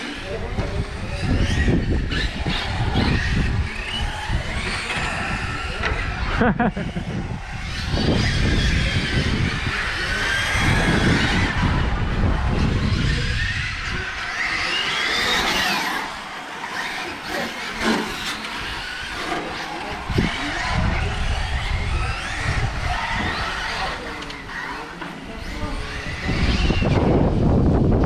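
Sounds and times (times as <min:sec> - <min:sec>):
electric motors whining: 0:00.0 - 0:28.0.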